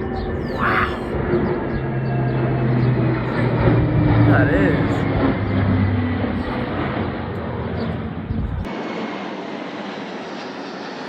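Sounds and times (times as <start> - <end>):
jet aircraft rumble and roar: 0.0 - 11.0.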